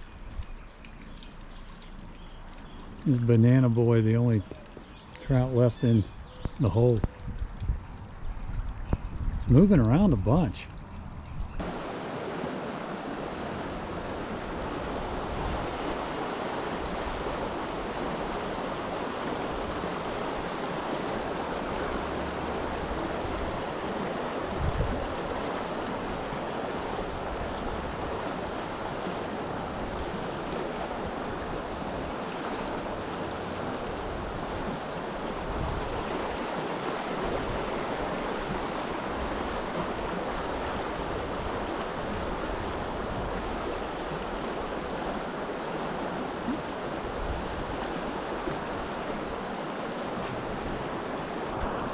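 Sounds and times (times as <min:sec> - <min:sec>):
creek water rushing: 0:00.0 - 0:08.6, 0:11.6 - 0:51.9
wind on microphone: 0:05.9 - 0:32.4, 0:33.3 - 0:45.3, 0:45.9 - 0:51.9.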